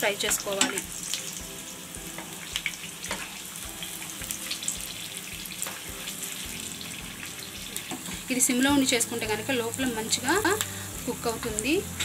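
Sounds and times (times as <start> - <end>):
oil sizzling with sharp pops: 0.0 - 12.0.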